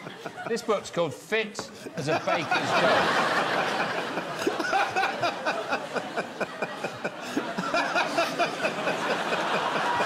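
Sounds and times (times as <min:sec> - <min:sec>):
audience laughing: 0:00.0 - 0:01.0, 0:01.6 - 0:10.0.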